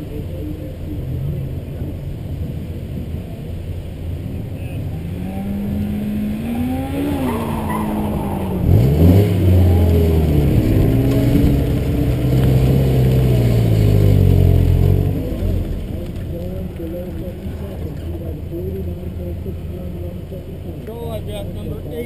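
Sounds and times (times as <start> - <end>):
car engine revving: 0.3 - 22.0.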